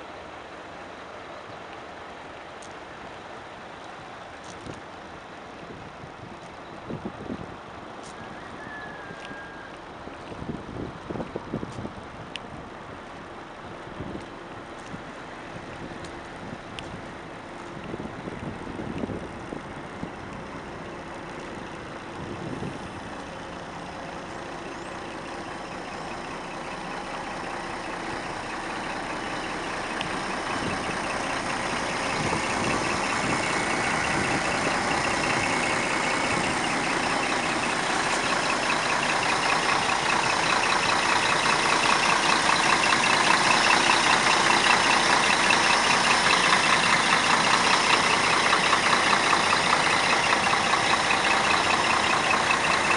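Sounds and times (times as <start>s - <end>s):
diesel engine idling: 0.0s - 52.9s
fast diesel clatter: 9.9s - 52.9s.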